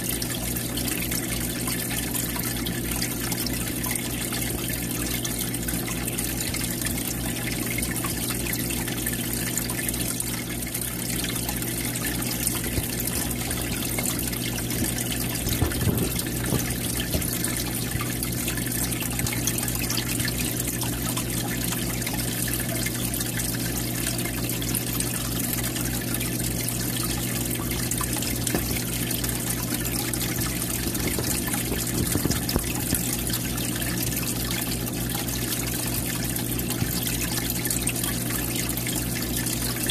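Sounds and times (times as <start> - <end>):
pump humming: 0.0 - 39.9
water trickling and splashing: 0.0 - 39.9.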